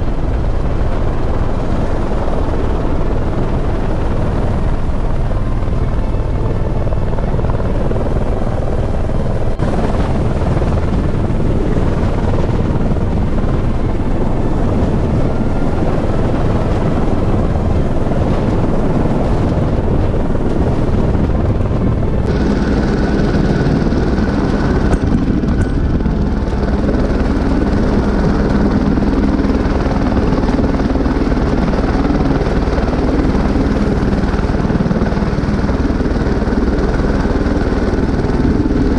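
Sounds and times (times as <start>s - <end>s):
helicopter rotor and turbine: 0.0s - 38.9s
high whine over low hum: 0.0s - 38.9s.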